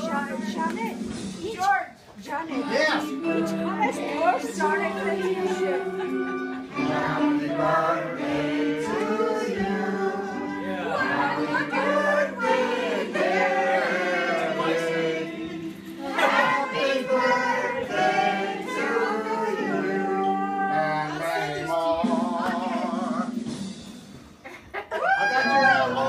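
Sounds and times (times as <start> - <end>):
group singing unaccompanied: 2.5 - 23.4.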